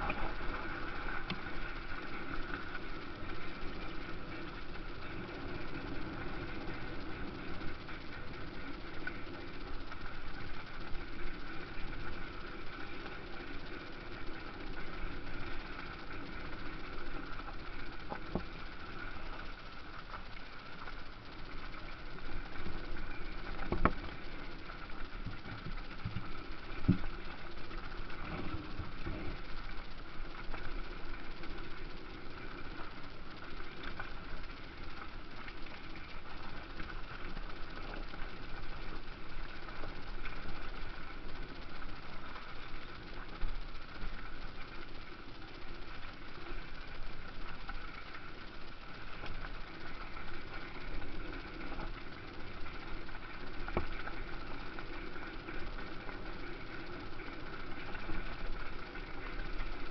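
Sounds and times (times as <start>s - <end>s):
motocross bike engines running: 0.0s - 59.9s.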